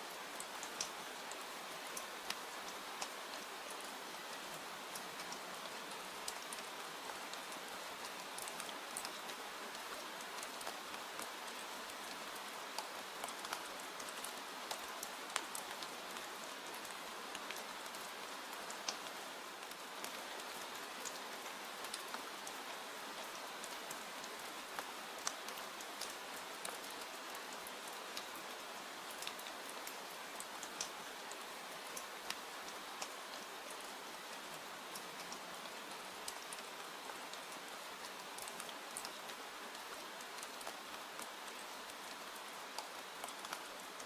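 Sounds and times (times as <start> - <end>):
sharp ticks and pops of rain: 0.0 - 44.0
steady rain falling: 0.0 - 44.0.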